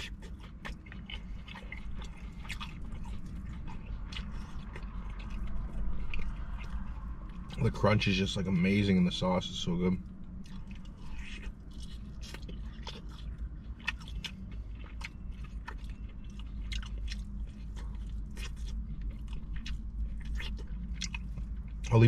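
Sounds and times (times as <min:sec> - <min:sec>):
crunchy chewing of fried chicken: 0:00.0 - 0:22.0.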